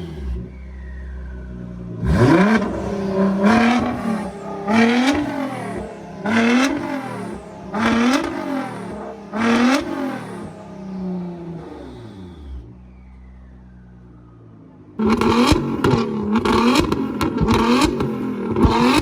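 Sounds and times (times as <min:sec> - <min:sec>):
car engine idling: 0:00.0 - 0:19.0
car engine revving in blips: 0:00.0 - 0:19.0.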